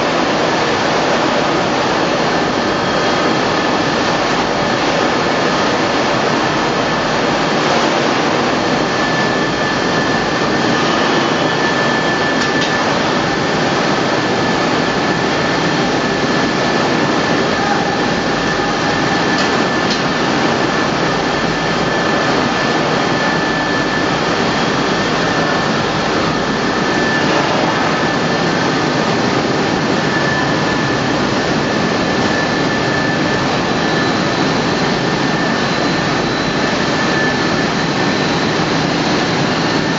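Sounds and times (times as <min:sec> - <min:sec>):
coiling machine running: 0:00.0 - 0:39.9
high mechanical whine: 0:00.0 - 0:39.9.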